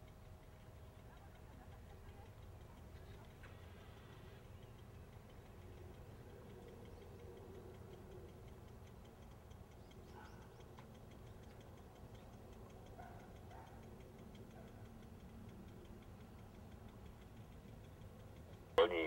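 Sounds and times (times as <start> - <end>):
faint quick ticking: 0.0 - 19.0.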